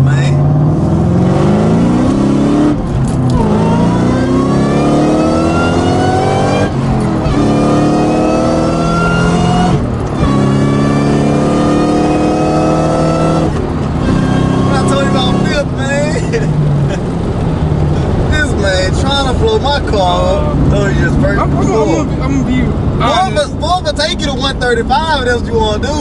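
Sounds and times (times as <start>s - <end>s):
car engine accelerating: 0.0s - 26.0s
supercharger whine: 0.0s - 26.0s.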